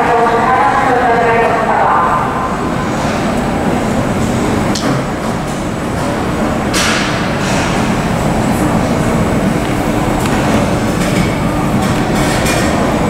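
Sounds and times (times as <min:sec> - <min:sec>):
airport apron rumble: 0:00.0 - 0:13.0.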